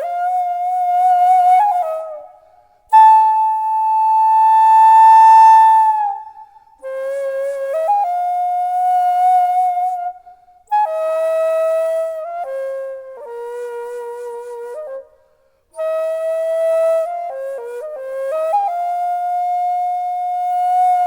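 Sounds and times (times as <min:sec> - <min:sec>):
bamboo flute playing solo: 0:00.0 - 0:15.1, 0:15.8 - 0:21.0.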